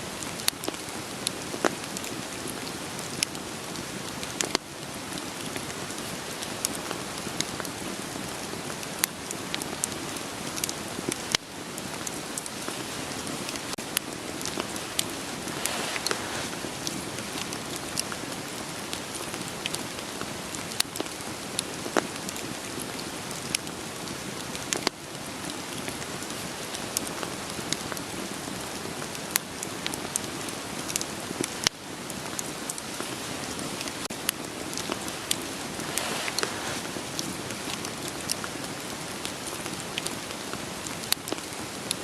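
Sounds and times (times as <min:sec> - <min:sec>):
campfire crackling: 0:00.0 - 0:42.0
rain hiss: 0:00.0 - 0:42.0.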